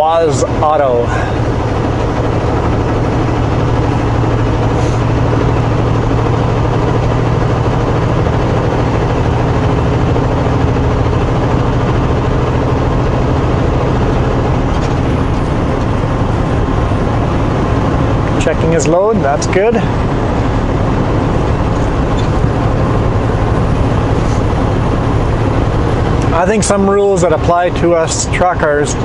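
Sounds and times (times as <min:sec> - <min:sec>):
road noise: 0:00.0 - 0:29.0
truck engine low drone: 0:00.0 - 0:29.0.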